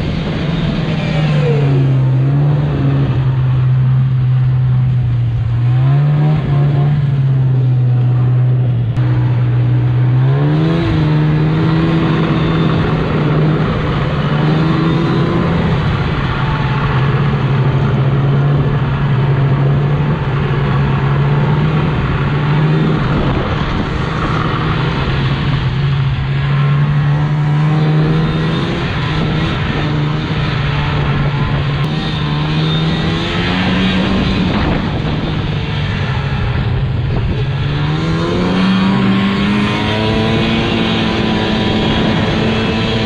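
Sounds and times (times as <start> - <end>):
road noise: 0.0 - 43.0.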